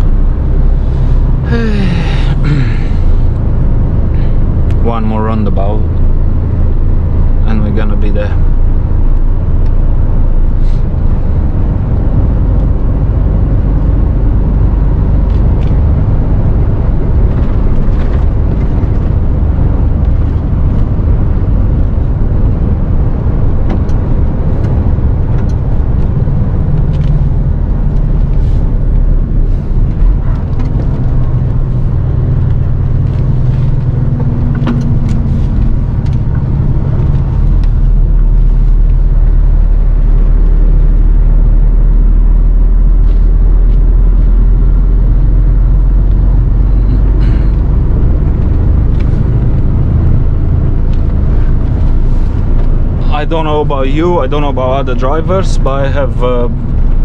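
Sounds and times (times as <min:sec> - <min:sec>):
road noise: 0:00.0 - 0:57.0
truck diesel engine drone: 0:00.0 - 0:57.0.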